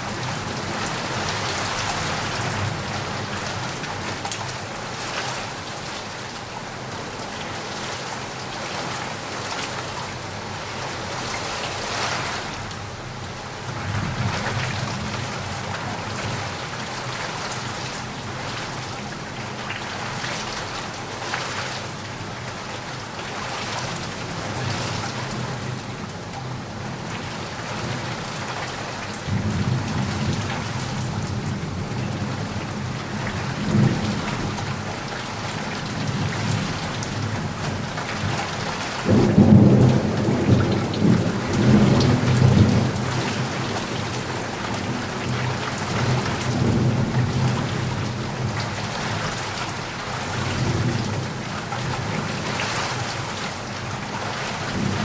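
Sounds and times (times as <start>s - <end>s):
rain hissing and pattering: 0.0s - 55.0s.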